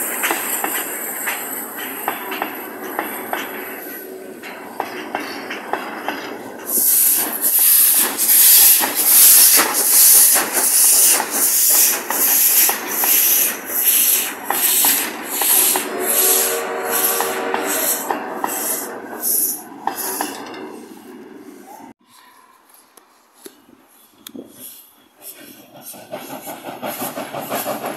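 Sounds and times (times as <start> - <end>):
train wheels clicking over rail joints: 0.0 - 21.4, 24.3 - 27.9
steam locomotive chuffing: 0.0 - 21.9, 24.5 - 27.9.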